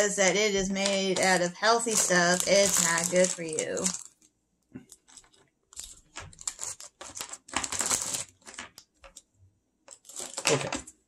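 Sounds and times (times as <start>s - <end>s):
plastic wrappers crinkling: 0.6s - 9.2s, 9.9s - 10.9s.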